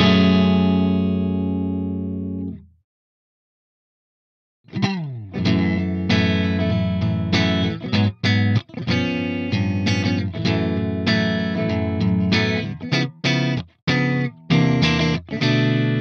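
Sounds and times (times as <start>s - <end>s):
electric guitar chords strummed: 0.0s - 2.6s, 4.7s - 16.0s.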